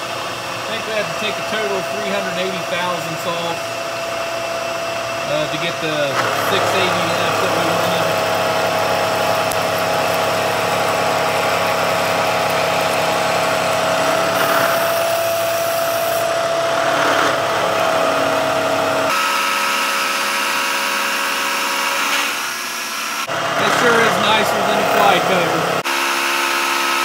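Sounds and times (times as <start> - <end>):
milling machine whine: 0.0 - 27.0.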